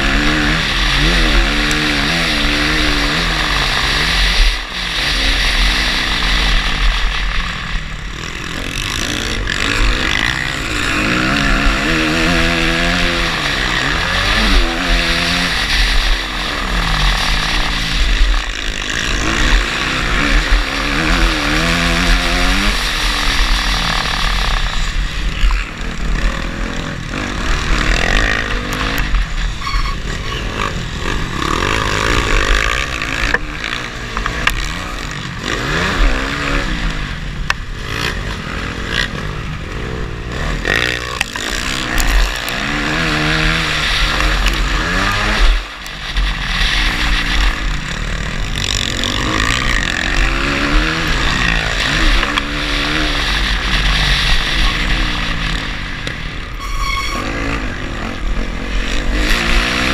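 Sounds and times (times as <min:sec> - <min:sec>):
dirt bike engine revving: 0:00.0 - 0:59.9
wind rumble on microphone: 0:10.1 - 0:59.9.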